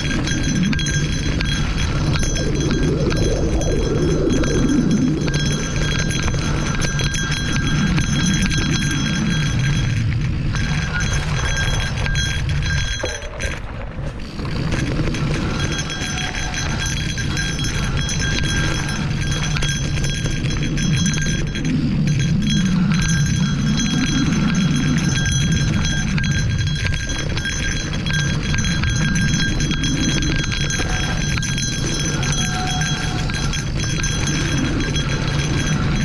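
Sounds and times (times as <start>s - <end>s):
rattling and clinking: 0.0s - 36.0s
wind on microphone: 0.0s - 36.0s.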